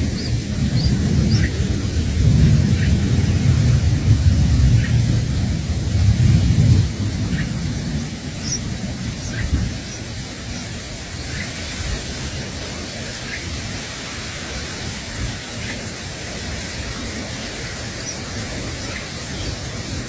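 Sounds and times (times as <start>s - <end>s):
outdoor rushing noise: 0.0s - 20.0s.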